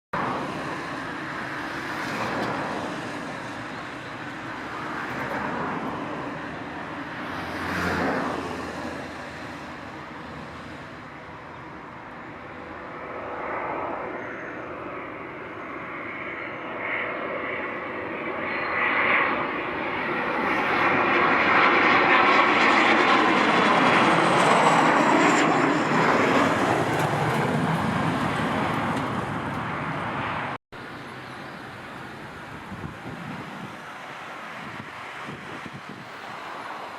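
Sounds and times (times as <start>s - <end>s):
airplane engine rumble: 0.2s - 36.9s.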